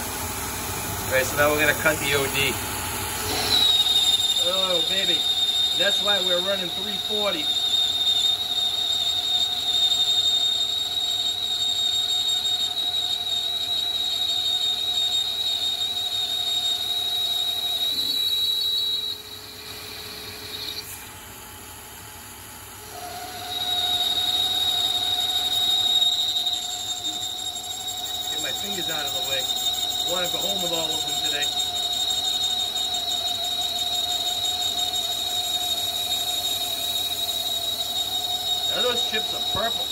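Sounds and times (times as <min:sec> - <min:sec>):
lathe cutting steel squeal: 0:00.6 - 0:21.1, 0:22.8 - 0:39.9.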